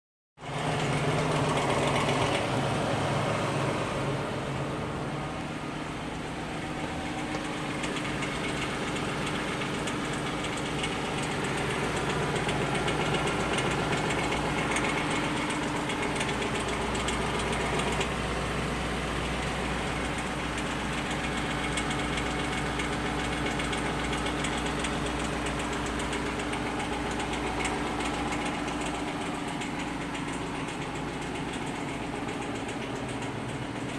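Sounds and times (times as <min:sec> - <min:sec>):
car engine idling: 0:00.4 - 0:33.9
rapid clicking: 0:06.6 - 0:33.9.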